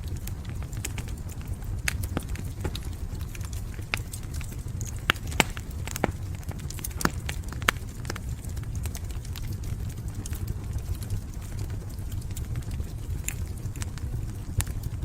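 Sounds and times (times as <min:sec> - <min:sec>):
steady low rumble: 0:00.0 - 0:14.7
wood fire crackling and popping: 0:00.0 - 0:15.0.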